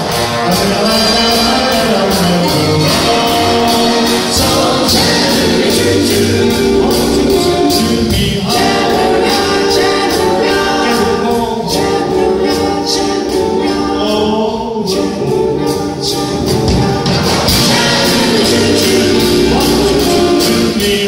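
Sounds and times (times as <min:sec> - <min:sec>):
swing big band: 0:00.0 - 0:21.0
vocal group singing in harmony: 0:00.0 - 0:21.0.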